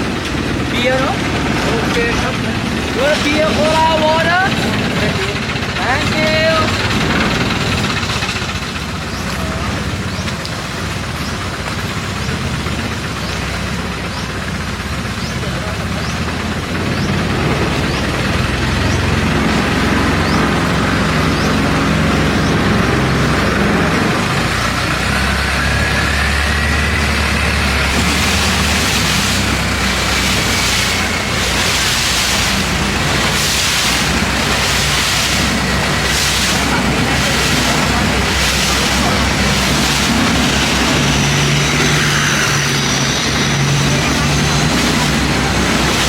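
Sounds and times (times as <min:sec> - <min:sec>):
rushing water and wind: 0:00.0 - 0:13.8, 0:16.8 - 0:46.0
boat engine running: 0:00.0 - 0:46.0.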